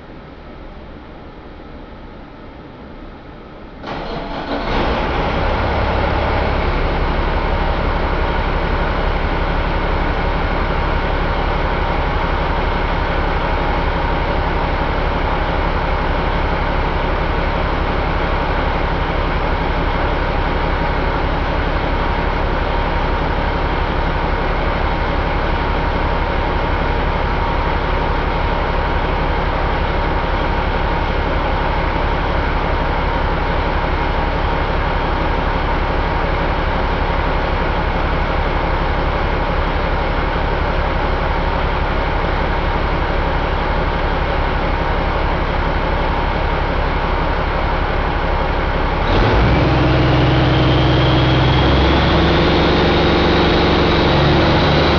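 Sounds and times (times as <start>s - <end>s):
diesel engine starting and running: 3.7s - 54.9s.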